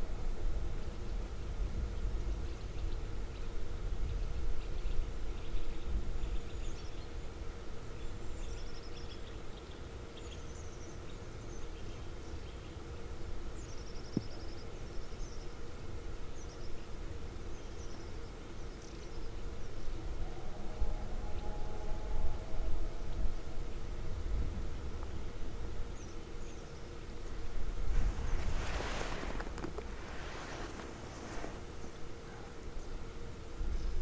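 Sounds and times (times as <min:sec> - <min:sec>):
faint hum: 0:00.0 - 0:34.0
low outdoor noise: 0:00.0 - 0:34.0.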